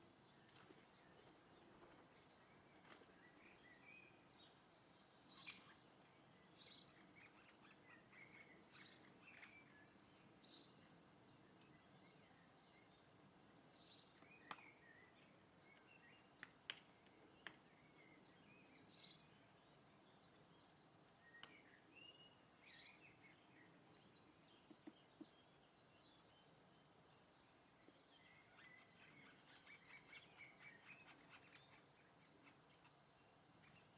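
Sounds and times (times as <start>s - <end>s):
faint birds chirping: 0.0s - 33.9s.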